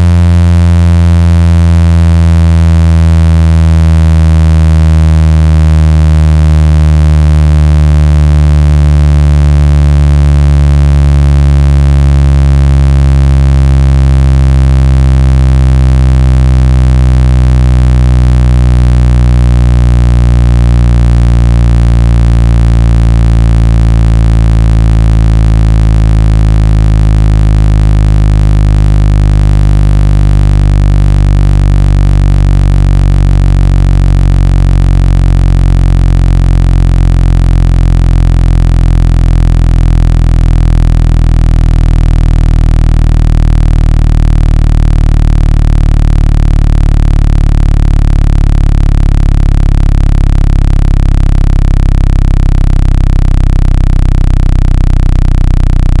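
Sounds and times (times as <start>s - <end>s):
low-pitched buzzing electronic tone: 0.0s - 56.0s.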